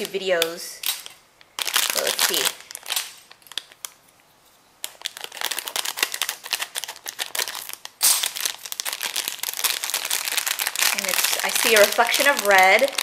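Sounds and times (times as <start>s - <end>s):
plastic bag crinkling: 0.0s - 4.0s, 4.8s - 13.0s.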